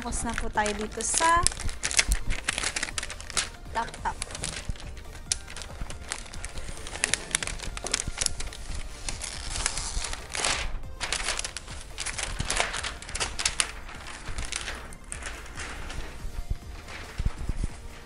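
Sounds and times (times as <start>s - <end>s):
plastic sleeve crinkling and rustling: 0.0s - 18.0s.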